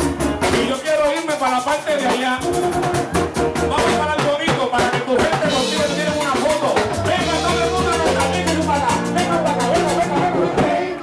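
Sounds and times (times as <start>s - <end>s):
driving drum beat: 0.0s - 11.0s
live band playing: 0.0s - 11.0s
man singing into a microphone: 0.4s - 2.7s, 3.7s - 11.0s.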